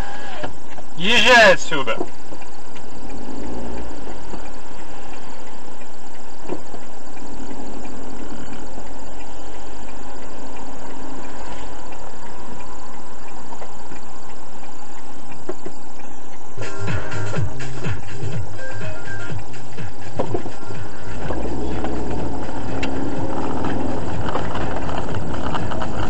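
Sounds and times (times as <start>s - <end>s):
car engine running: 0.0s - 26.0s
steady hiss: 0.0s - 26.0s.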